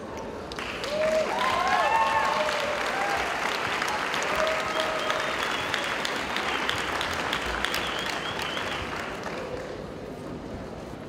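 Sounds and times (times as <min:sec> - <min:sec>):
audience applauding: 0:00.4 - 0:10.1.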